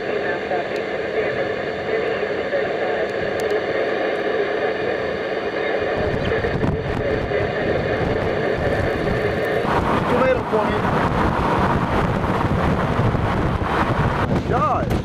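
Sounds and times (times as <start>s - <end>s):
wind rushing over microphone: 0.8s - 15.0s.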